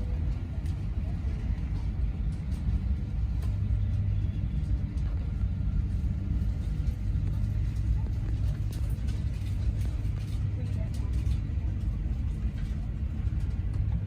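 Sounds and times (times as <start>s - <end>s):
aircraft cabin ventilation rumble: 0.0s - 14.0s.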